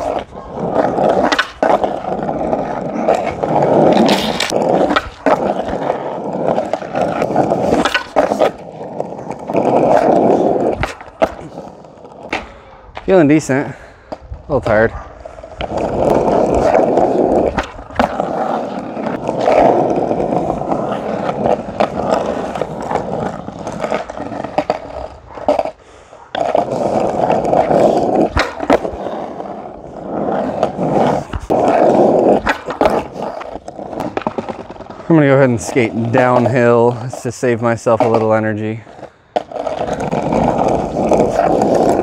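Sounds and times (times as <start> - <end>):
skateboard clacking on ground: 0.0 - 13.5, 14.1 - 42.0
skateboard wheels rolling on asphalt: 0.0 - 42.0.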